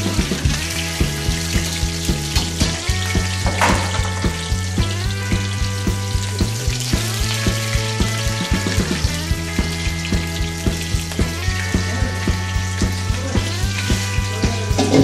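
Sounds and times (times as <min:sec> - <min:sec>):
background music with beat: 0:00.0 - 0:15.0
food sizzling in a wok: 0:00.0 - 0:15.0.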